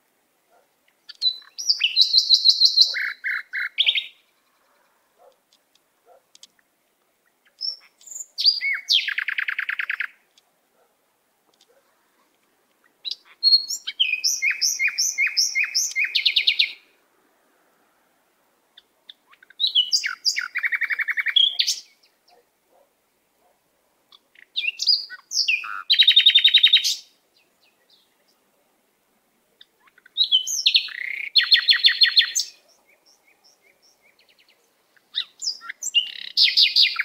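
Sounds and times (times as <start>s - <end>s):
songbird chirping and trilling: 0.5s - 10.9s, 11.5s - 17.0s, 18.7s - 22.9s, 24.1s - 28.6s, 29.5s - 37.0s.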